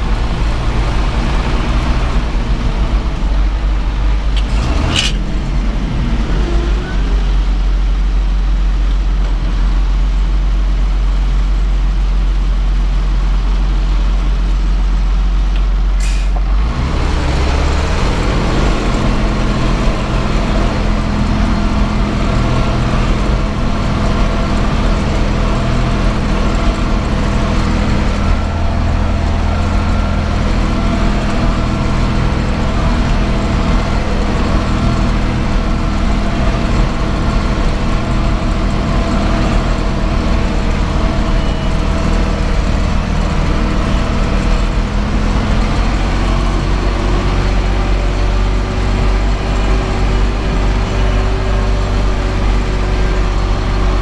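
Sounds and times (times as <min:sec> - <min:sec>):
tractor diesel engine from cab: 0:00.0 - 0:54.0.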